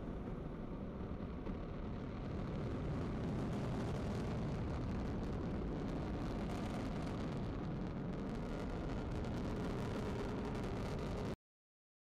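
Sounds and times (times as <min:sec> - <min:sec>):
rocket engines rumbling and crackling: 0:00.0 - 0:11.4.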